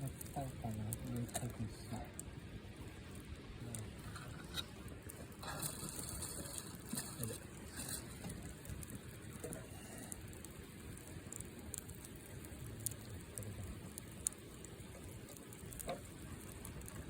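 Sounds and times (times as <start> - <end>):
campfire crackling and popping: 0.0 - 17.0
fire hissing: 0.0 - 17.0.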